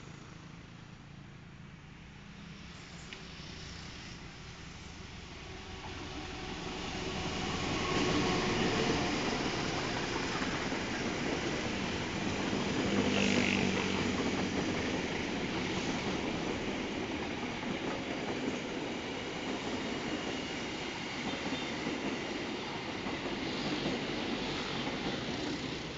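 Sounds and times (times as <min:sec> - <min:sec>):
train wheels rumbling and rattling: 0:02.5 - 0:25.9.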